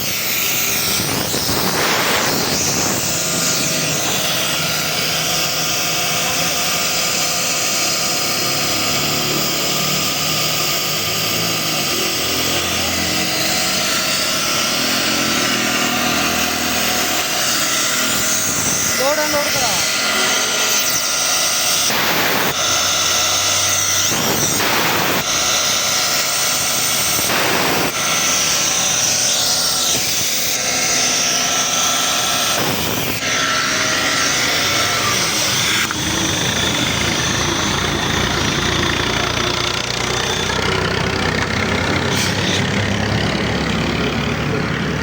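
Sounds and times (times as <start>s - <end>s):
machinery running with hum and hiss: 0.0s - 45.0s.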